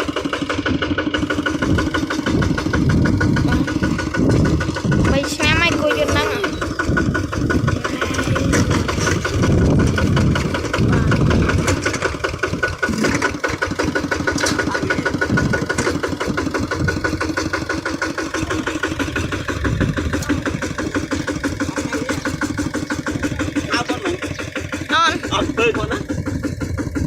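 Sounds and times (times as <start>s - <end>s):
diesel engine chugging: 0.0s - 27.0s.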